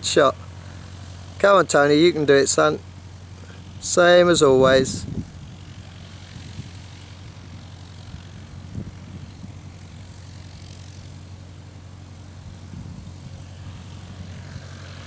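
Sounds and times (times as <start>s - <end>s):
faint propeller plane drone: 0.0s - 15.0s.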